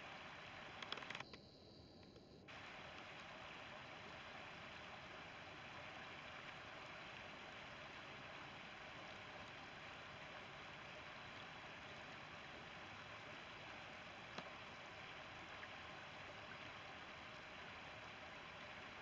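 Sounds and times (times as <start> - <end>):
river water flowing over stones: 0.0 - 1.2, 2.5 - 19.0.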